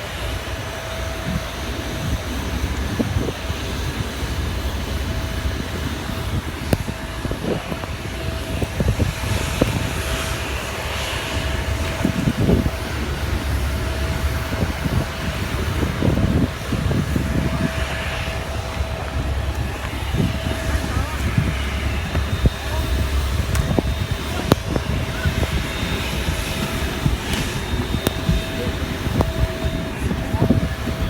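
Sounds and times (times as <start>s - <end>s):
aircraft engine hum: 0.0s - 31.0s.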